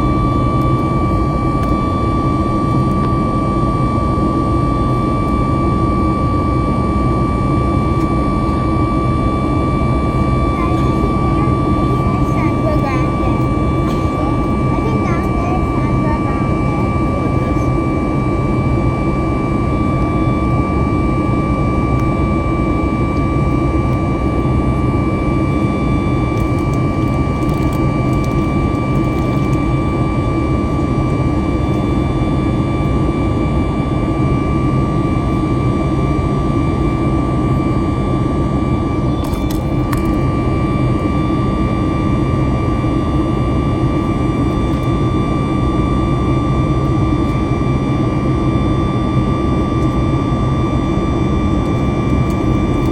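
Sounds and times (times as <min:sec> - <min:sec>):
high engine whine: 0:00.0 - 0:52.9
jet engines roaring in cabin: 0:00.0 - 0:52.9.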